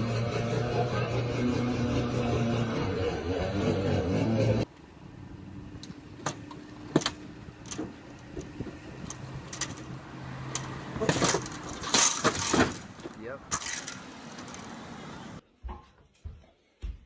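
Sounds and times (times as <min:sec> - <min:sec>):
car engine humming: 0:00.0 - 0:15.4.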